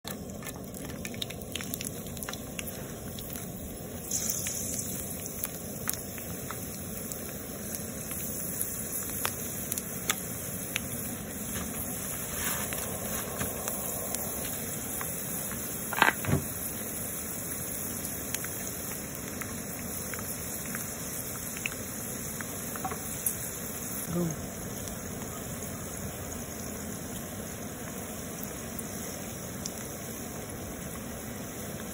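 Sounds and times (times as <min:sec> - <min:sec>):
fish sizzling in hot oil: 0:00.0 - 0:31.9.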